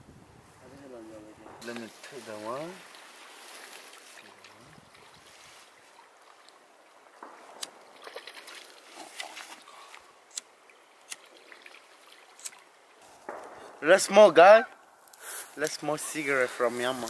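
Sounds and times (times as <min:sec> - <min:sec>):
running water hiss: 0:01.6 - 0:13.3, 0:15.0 - 0:17.0.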